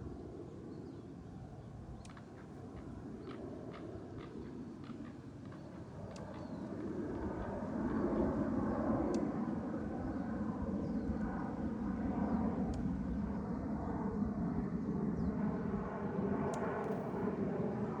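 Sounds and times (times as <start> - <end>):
aircraft engine drone: 0.0 - 18.0.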